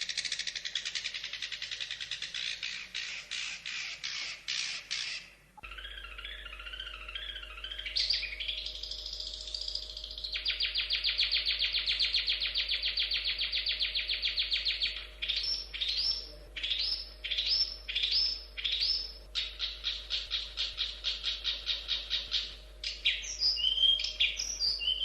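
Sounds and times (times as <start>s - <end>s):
bird singing warbles and trills: 0.0s - 25.0s.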